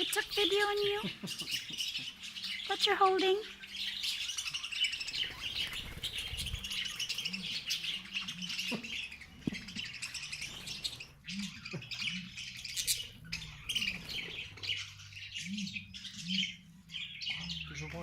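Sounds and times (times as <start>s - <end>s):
flock of budgerigars chattering: 0.0s - 18.0s.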